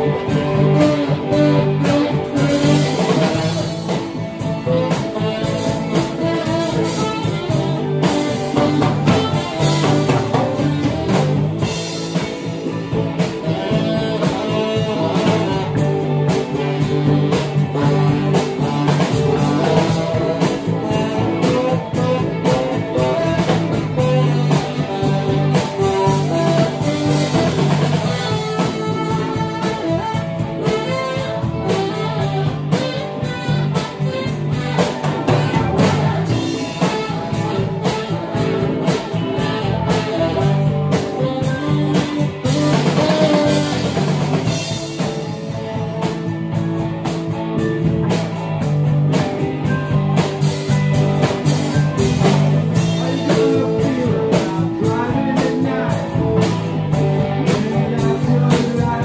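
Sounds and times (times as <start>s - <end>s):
electric bass guitar: 0.0s - 59.0s
electric guitars: 0.0s - 59.0s
steady beat: 0.0s - 59.0s.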